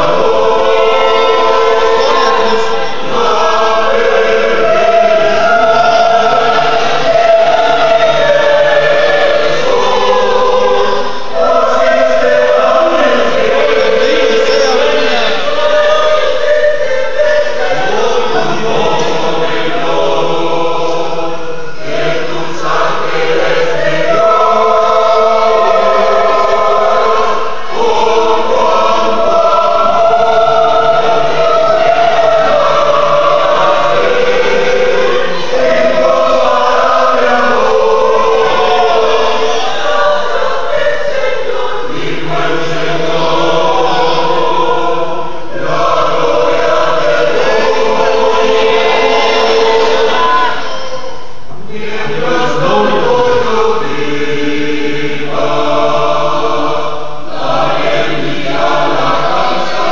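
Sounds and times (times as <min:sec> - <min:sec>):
mixed choir singing a hymn: 0:00.0 - 0:59.9.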